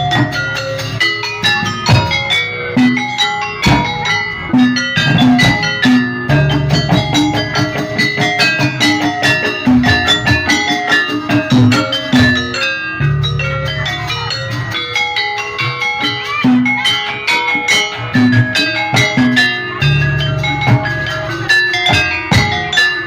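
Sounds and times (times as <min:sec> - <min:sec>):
pitched metal percussion: 0:00.0 - 0:23.0
rhythmic drum strokes: 0:00.0 - 0:23.0.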